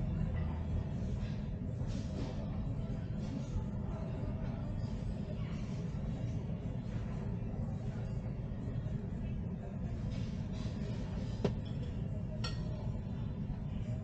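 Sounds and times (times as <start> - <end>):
low rumble of terminal: 0.0 - 14.0.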